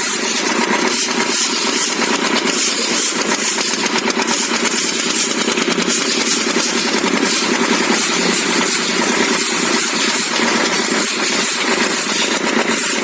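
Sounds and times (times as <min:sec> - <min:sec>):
small motor buzzing: 0:00.0 - 0:13.0.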